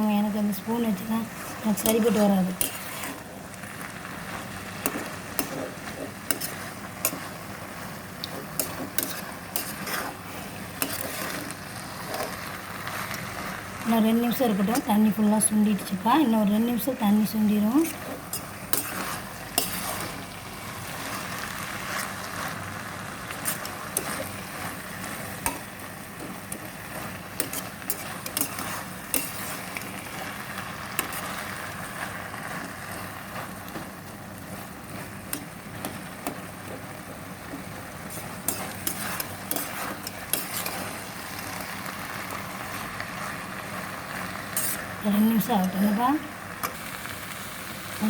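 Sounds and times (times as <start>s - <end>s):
filling sizzling in a pan: 0.0s - 48.0s.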